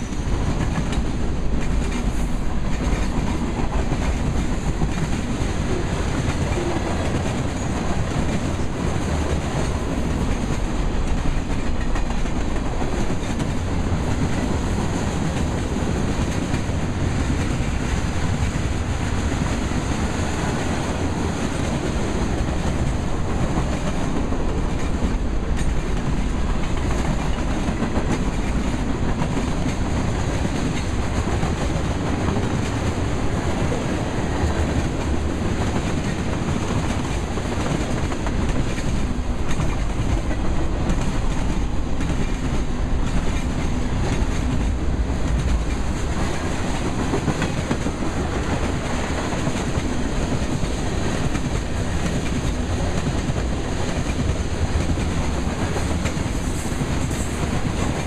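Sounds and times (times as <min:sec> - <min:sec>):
freight cars rumbling on rails: 0:00.0 - 0:58.0.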